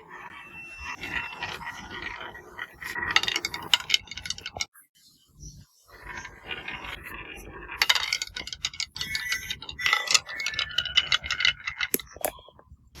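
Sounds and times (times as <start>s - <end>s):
marbles clattering on track: 0.0s - 4.7s, 6.0s - 12.5s.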